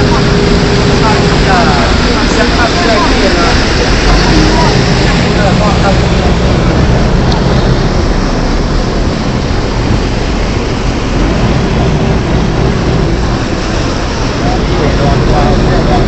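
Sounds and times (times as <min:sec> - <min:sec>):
boat engine running: 0:00.0 - 0:16.0
wind and water rushing: 0:00.0 - 0:16.0.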